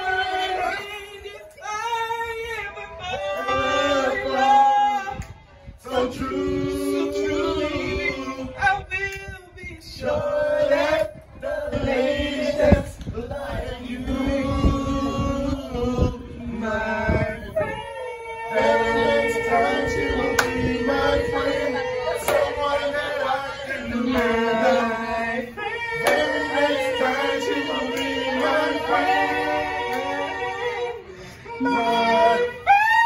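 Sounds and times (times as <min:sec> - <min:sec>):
men singing together: 0:00.0 - 0:33.0.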